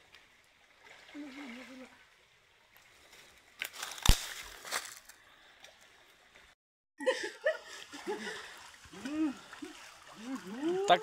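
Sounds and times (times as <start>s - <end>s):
water splashing: 0.0s - 6.5s, 7.4s - 11.0s.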